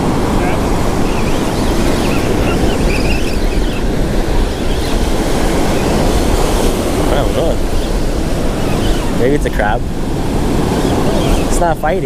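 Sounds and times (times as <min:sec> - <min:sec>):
ocean surf breaking on beach: 0:00.0 - 0:12.0
wind buffeting microphone: 0:00.0 - 0:12.0.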